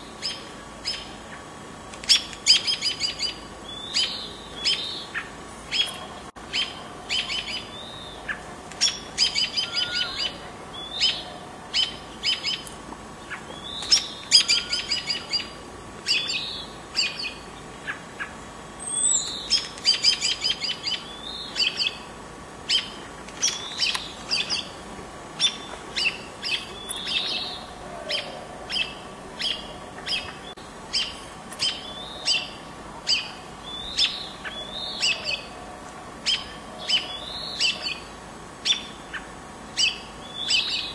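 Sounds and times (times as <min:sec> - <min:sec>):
birds chattering: 0:00.0 - 0:40.9
songbirds chirping: 0:00.0 - 0:40.9.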